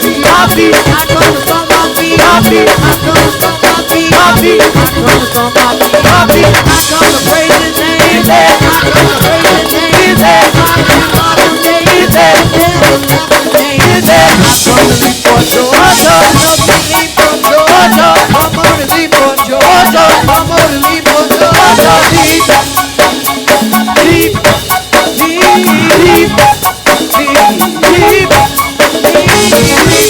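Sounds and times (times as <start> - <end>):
drum kit strokes: 0.0 - 30.0
gospel band playing: 0.0 - 30.0.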